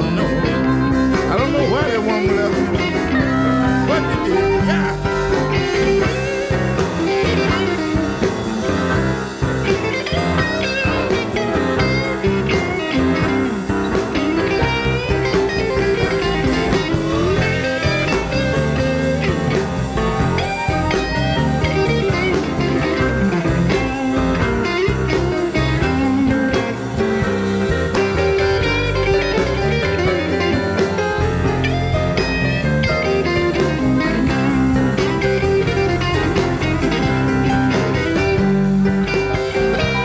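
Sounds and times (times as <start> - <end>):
bass guitar: 0.0 - 40.0
drums: 0.0 - 40.0
electric guitar: 0.0 - 40.0.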